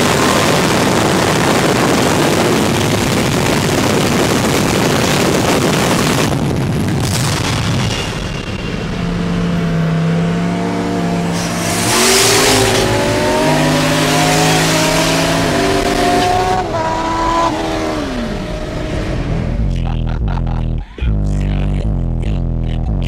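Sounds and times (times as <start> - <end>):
rush of noise: 0.0 - 22.0
truck engine accelerating: 0.0 - 23.0.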